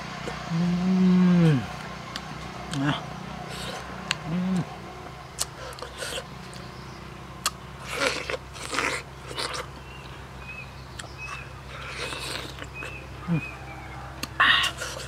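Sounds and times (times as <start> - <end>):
mango peeling and biting: 0.0 - 6.8, 7.4 - 13.5, 14.2 - 15.0.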